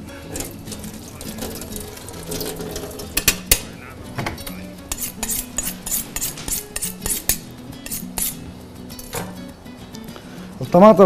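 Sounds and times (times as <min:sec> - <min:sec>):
metal utensils clinking on dishes: 0:00.0 - 0:09.5
faint background music: 0:00.0 - 0:11.0.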